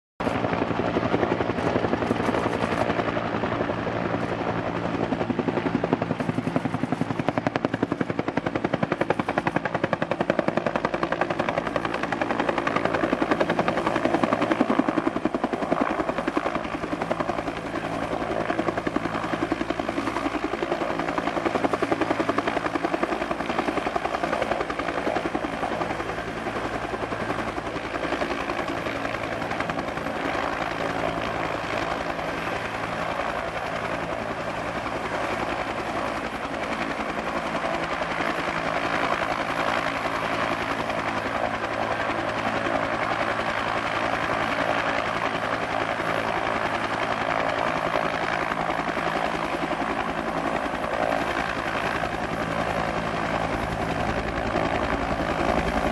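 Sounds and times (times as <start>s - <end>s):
helicopter rotor beating: 0.2s - 55.9s
helicopter turbine engine: 0.2s - 55.9s.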